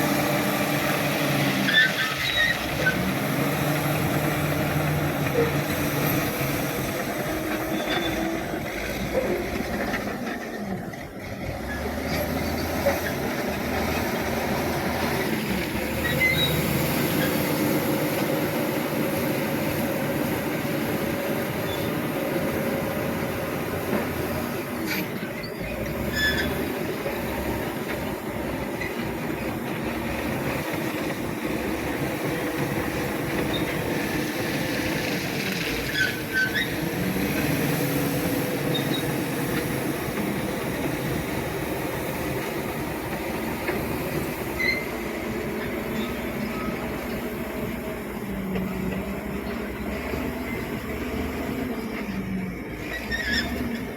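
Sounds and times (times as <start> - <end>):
bulldozer diesel engine: 0.0 - 53.9
steel tracks clanking and squealing: 0.8 - 3.5, 4.1 - 18.9, 20.2 - 53.9.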